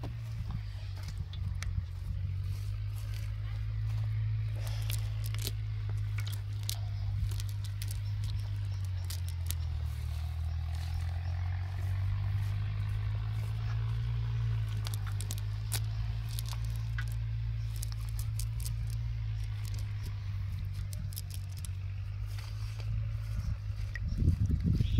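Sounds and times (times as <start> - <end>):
low drone: 0.0 - 24.6
fishing net rustling and crackling: 0.0 - 24.9.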